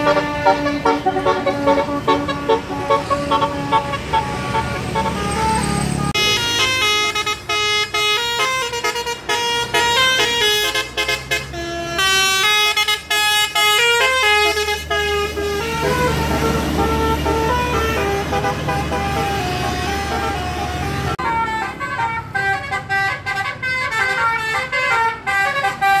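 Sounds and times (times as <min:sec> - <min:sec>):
bus engine running: 0:00.0 - 0:26.0
musical bus air horn melody: 0:00.0 - 0:26.0.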